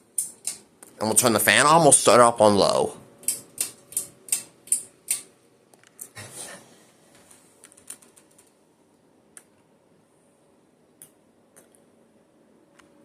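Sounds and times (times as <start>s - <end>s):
faint steady fan hum: 0.0s - 13.0s.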